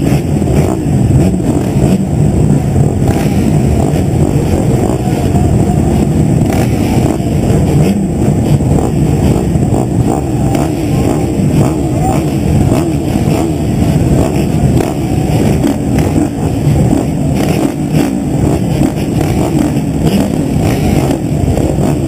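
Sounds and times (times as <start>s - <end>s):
motocross bike engines running: 0.0s - 22.0s.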